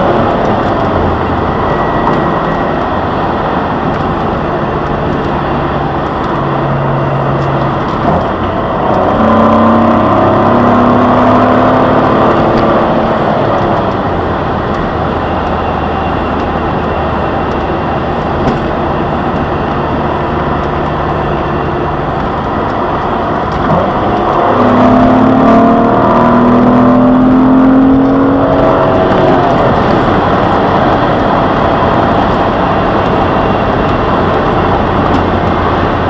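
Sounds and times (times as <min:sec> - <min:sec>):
car engine revving: 0:00.0 - 0:36.0
tyre and road noise: 0:00.0 - 0:36.0.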